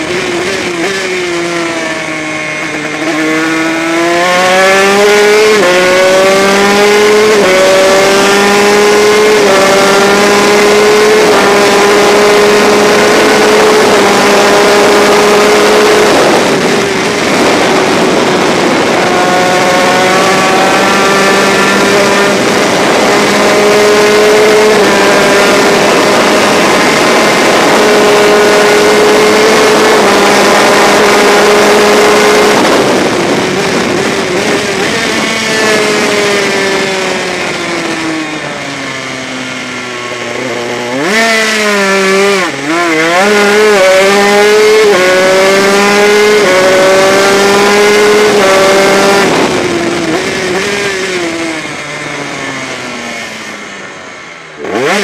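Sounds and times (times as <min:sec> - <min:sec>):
two-stroke race engine accelerating: 0:00.0 - 0:55.0.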